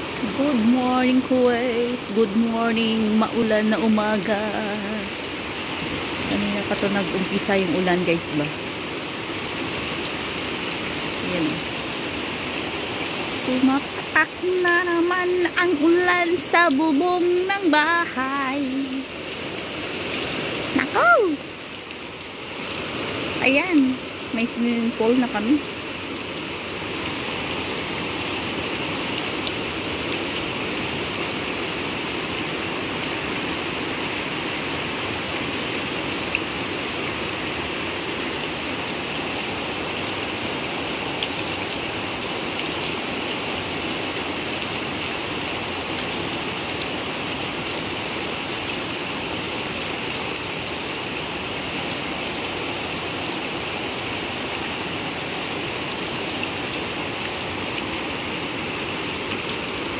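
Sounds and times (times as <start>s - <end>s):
heavy rain splashing into water: 0.0s - 59.9s.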